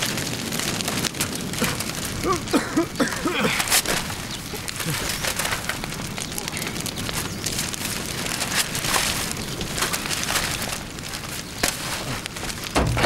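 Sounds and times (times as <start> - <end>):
bonfire crackling: 0.0 - 13.0
books thumping onto fire: 0.0 - 13.0.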